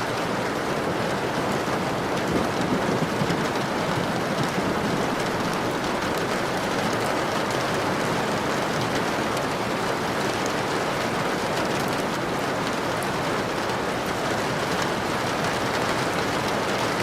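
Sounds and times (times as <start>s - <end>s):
steady rain hissing: 0.0s - 17.0s.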